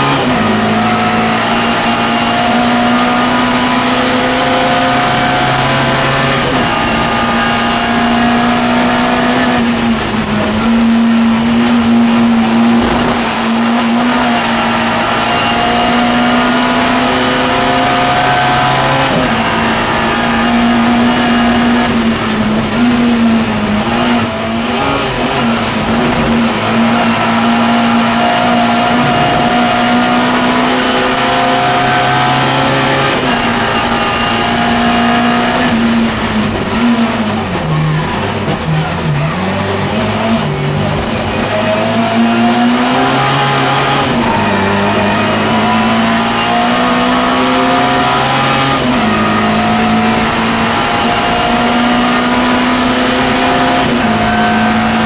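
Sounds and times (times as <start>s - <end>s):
race car engine at high revs: 0.0s - 55.0s
wind and road noise: 0.0s - 55.0s.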